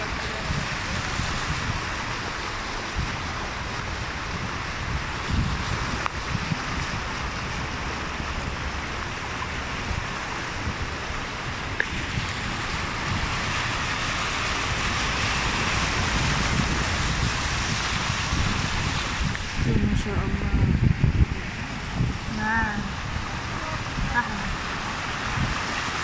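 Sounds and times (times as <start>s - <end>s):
car tyres through floodwater: 0.0s - 26.0s.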